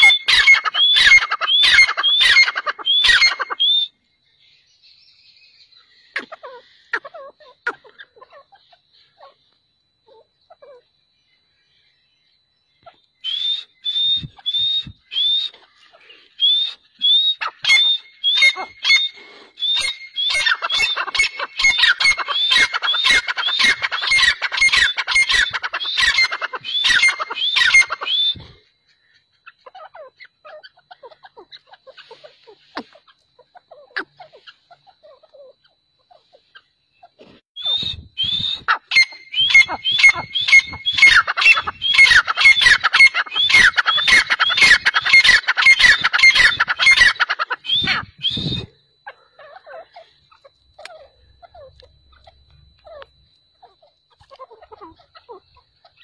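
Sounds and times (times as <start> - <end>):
faint bird chirps: 0.0 - 56.0
francolins calling: 0.0 - 56.0.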